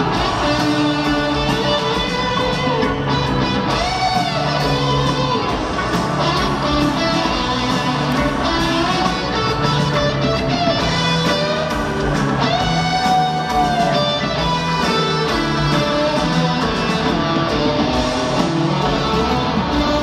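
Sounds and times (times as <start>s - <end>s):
lead guitar line: 0.0s - 20.0s
live rock band playing: 0.0s - 20.0s.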